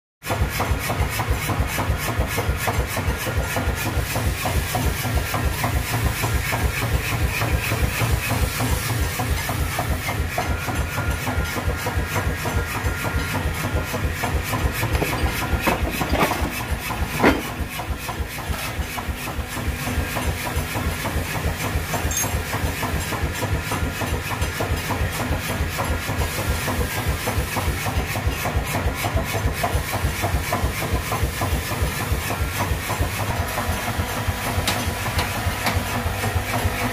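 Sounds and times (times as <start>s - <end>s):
machinery rhythmic clatter: 0.2s - 36.9s.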